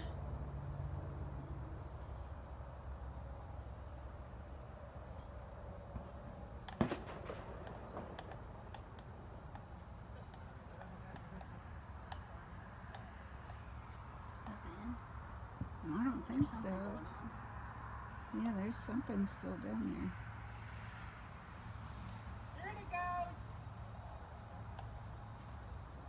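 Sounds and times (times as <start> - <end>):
crickets chirping: 0.0 - 26.0
distant fireworks crackling: 4.4 - 26.0.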